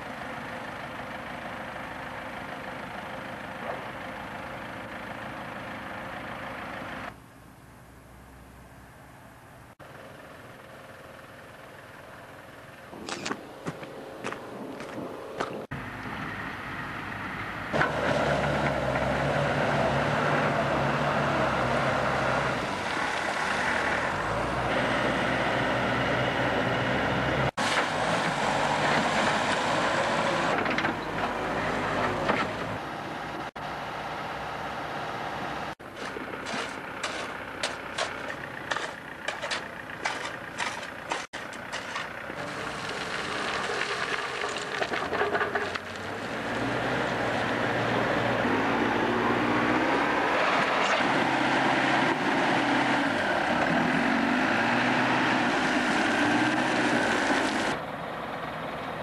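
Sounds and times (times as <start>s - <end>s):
diesel engines under load: 0.0s - 59.0s.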